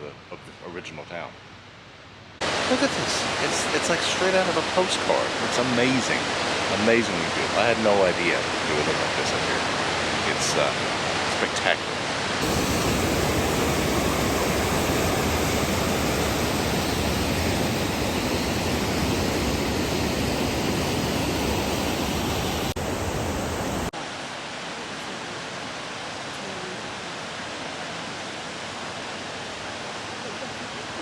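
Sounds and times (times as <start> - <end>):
creek water rushing: 2.4 - 31.0.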